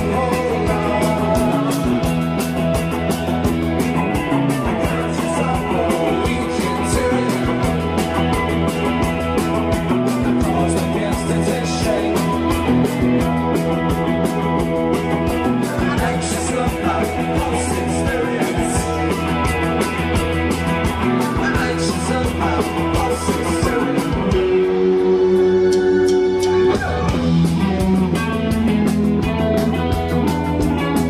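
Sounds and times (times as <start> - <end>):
rock band playing live: 0.0 - 31.0.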